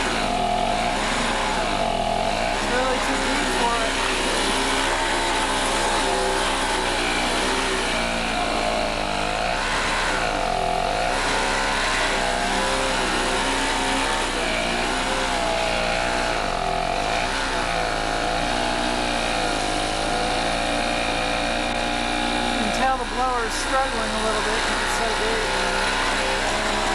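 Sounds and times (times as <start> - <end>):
snowblower engine bogging down: 0.0 - 26.9.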